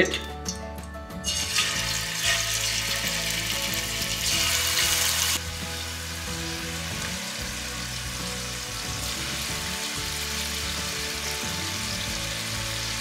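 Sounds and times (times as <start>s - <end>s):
chicken sizzling in hot oil: 1.2s - 13.0s.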